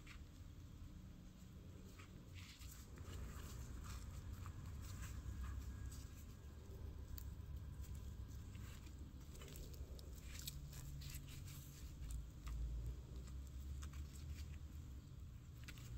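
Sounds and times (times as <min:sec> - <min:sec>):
steady low hum: 0:00.0 - 0:15.9
flatbread crust crackling: 0:01.7 - 0:15.9.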